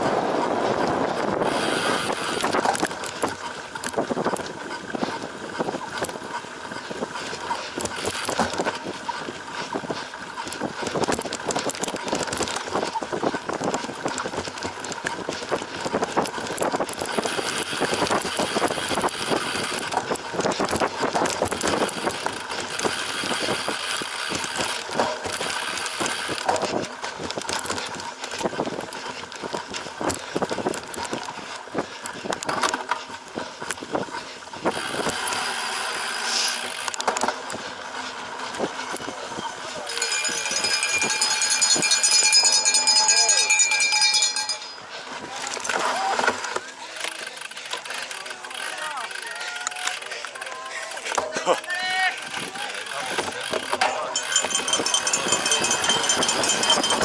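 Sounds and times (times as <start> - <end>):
bike rattling over rough ground: 0.0 - 57.0.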